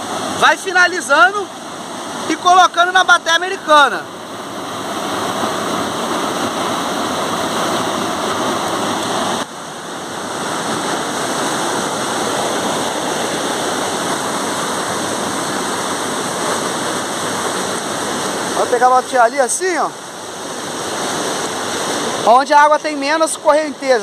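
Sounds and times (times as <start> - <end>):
fast-flowing water rushing: 0.0 - 24.0.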